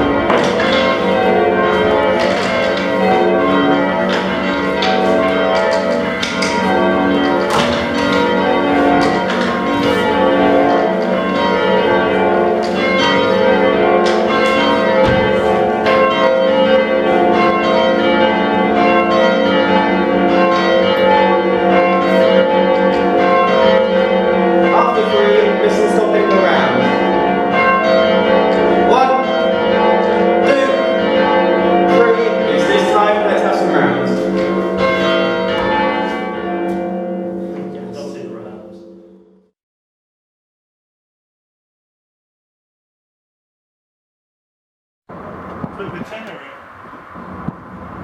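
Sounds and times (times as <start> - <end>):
church bells ringing changes: 0.0 - 39.5.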